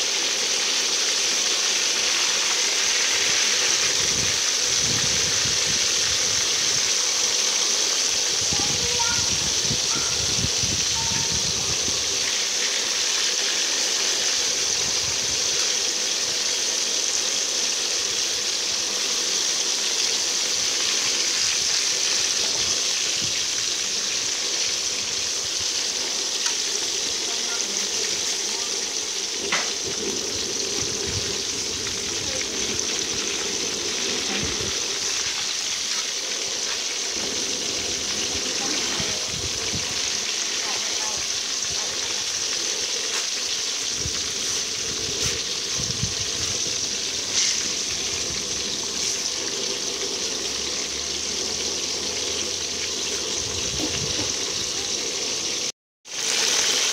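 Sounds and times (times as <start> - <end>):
fish sizzling in hot oil: 0.0 - 56.9.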